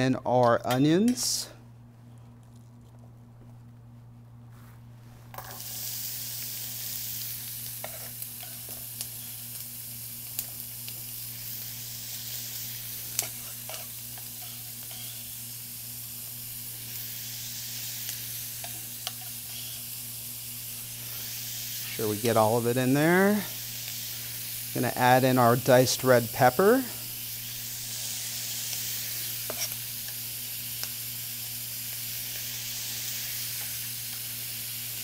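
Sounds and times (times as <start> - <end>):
onions sizzling in oil: 5.4 - 35.0.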